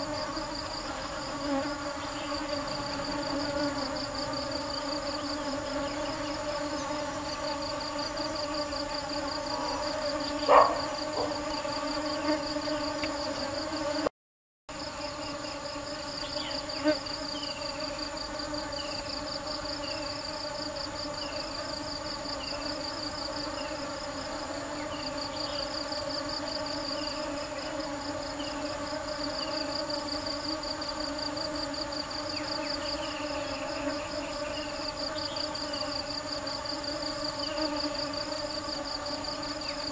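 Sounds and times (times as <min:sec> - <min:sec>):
honeybees buzzing: 0:00.0 - 0:14.1, 0:14.8 - 0:39.9.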